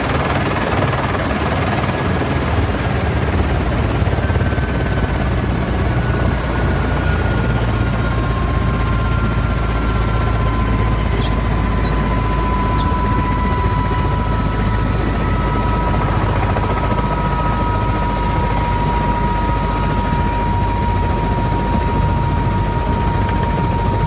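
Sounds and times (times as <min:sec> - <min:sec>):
helicopter rotor and engine rush: 0:00.0 - 0:24.0.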